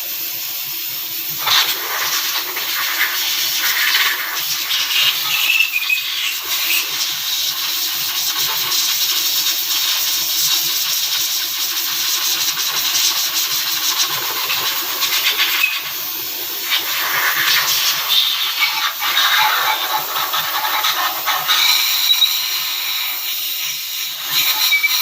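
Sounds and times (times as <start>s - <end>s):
loud hissing with fine rattle: 0.0s - 25.0s.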